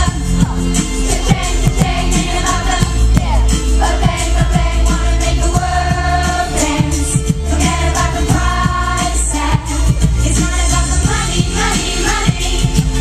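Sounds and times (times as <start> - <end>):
pop backing track with heavy bass: 0.0 - 13.0.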